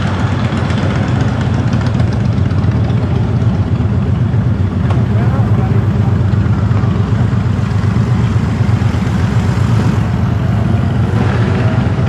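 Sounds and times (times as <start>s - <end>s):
car engine rumbling: 0.0s - 12.0s
road noise: 0.0s - 12.0s.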